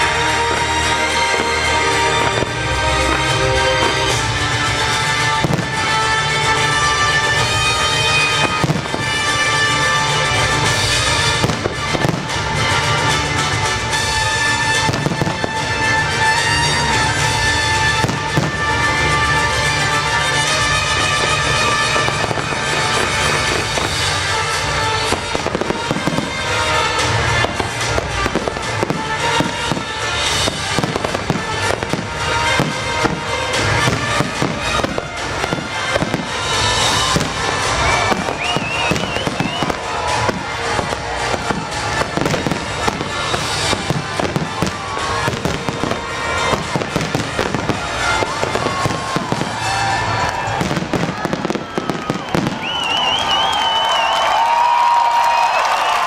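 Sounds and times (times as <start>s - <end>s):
fireworks bursts and crackles: 0.0s - 56.0s
orchestral music: 0.0s - 56.0s.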